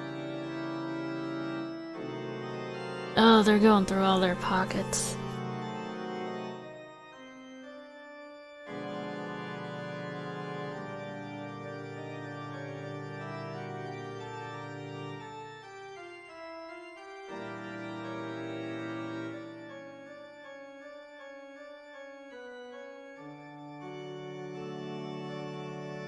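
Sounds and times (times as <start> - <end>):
organ playing sustained chords: 0.0 - 26.0.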